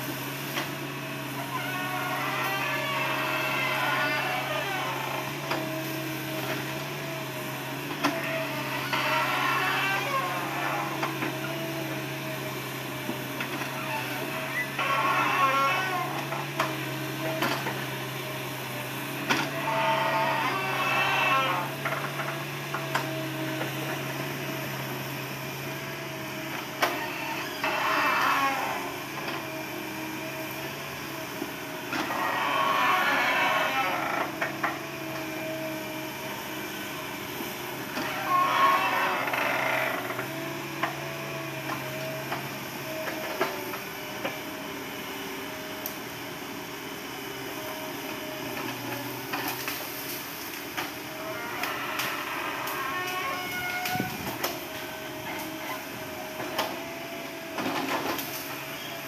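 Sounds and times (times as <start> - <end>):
excavator diesel engine humming: 0.0 - 59.0.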